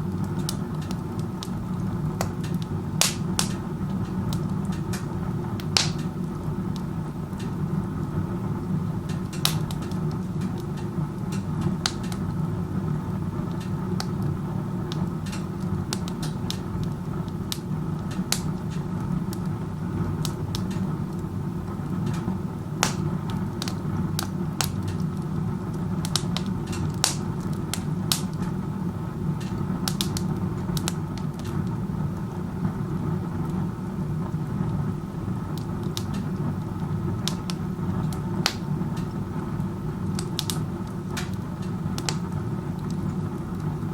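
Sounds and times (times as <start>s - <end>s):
burning wood crackling and popping: 0.0s - 43.9s.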